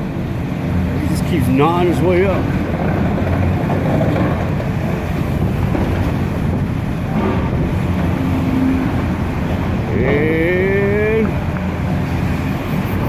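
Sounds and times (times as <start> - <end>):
excavator diesel engine rumbling: 0.0 - 13.0
wind buffeting microphone: 0.0 - 13.0.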